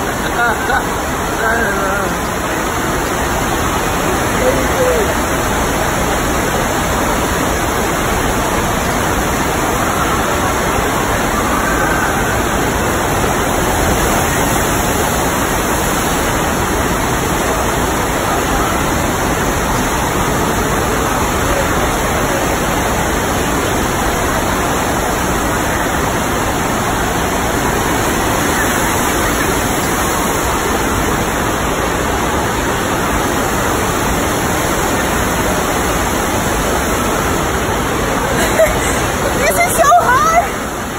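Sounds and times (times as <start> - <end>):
rush of pumped water: 0.0 - 40.9.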